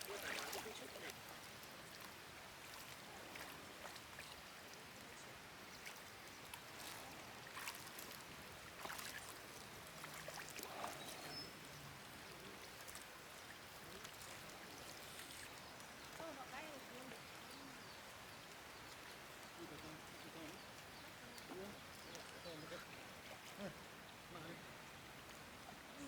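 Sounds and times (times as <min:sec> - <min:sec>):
faint running water: 0:00.0 - 0:26.0.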